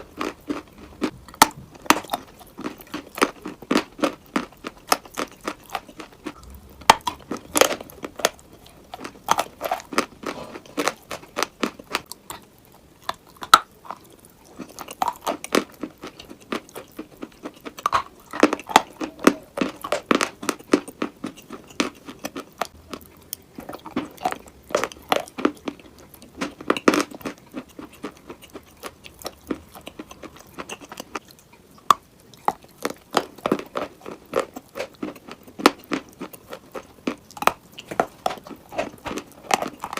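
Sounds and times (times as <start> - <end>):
chewing chalk crunching: 0.0 - 39.9.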